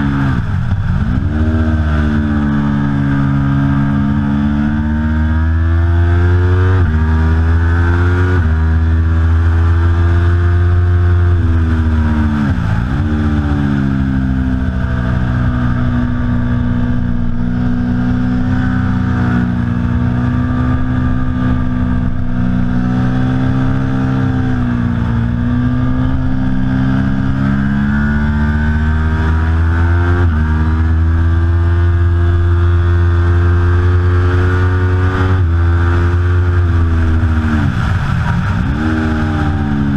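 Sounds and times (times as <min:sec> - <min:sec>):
motorcycle engine revving at racing speed: 0:00.0 - 0:39.9.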